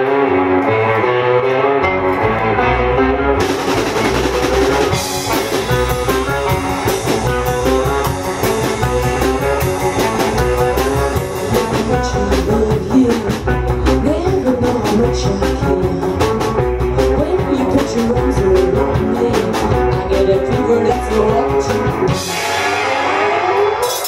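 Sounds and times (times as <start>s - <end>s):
electric guitar playing: 0.0s - 24.0s
drum kit steady beat: 3.4s - 24.0s.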